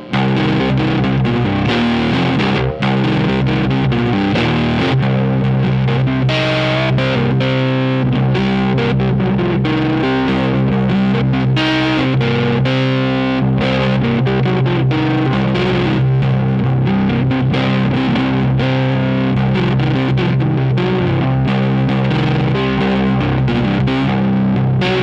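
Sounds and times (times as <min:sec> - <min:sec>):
distorted electric guitar music: 0:00.0 - 0:25.0.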